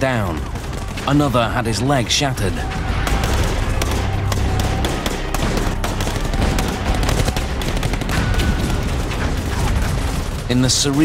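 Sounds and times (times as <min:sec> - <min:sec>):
gunshots: 0:00.0 - 0:11.0.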